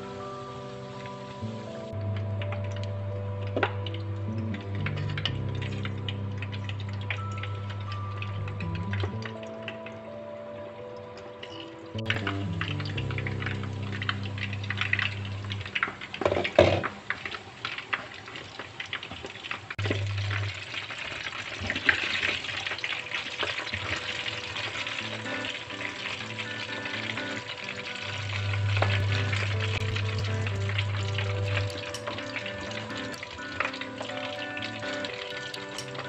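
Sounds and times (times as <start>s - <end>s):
food deep-frying in oil: 0.0s - 10.2s, 11.2s - 36.0s
background music: 0.0s - 16.7s, 21.9s - 36.0s.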